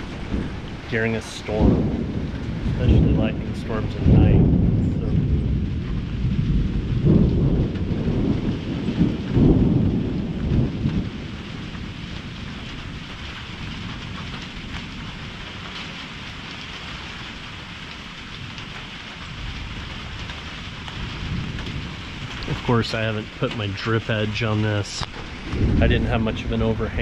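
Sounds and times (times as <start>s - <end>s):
heavy rain: 0.0s - 27.0s
thunder rumbling: 0.0s - 27.0s.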